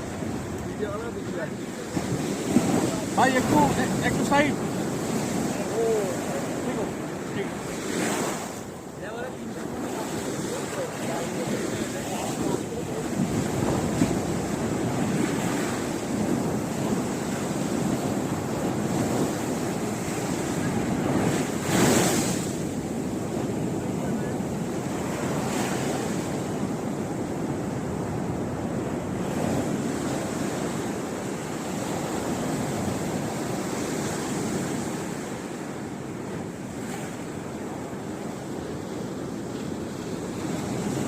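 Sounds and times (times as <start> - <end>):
waves breaking on a beach: 0.0 - 41.0
wind buffeting microphone: 0.0 - 41.0.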